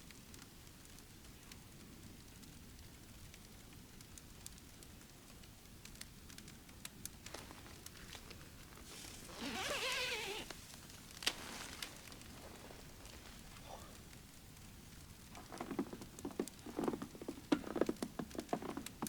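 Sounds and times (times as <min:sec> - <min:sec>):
faint ticks and crackles: 0:00.0 - 0:19.0.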